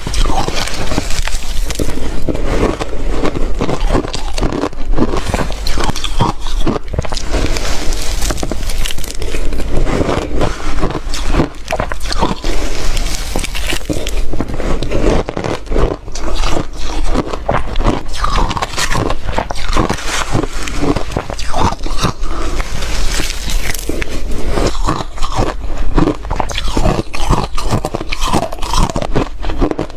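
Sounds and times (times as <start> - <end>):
ice being chewed: 0.0 - 29.9.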